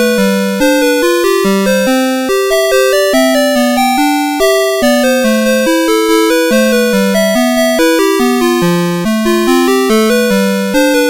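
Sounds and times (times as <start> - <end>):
alarm clock beeping melody: 0.0 - 11.0.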